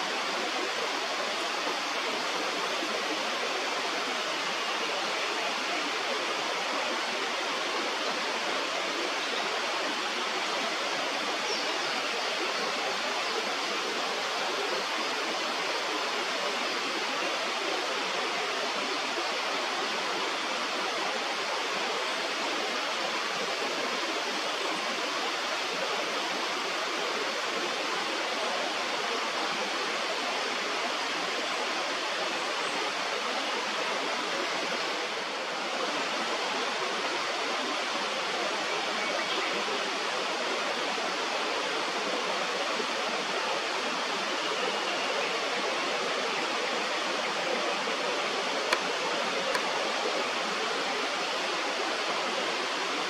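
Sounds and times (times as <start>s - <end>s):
fast-flowing river rushing: 0.0s - 53.0s.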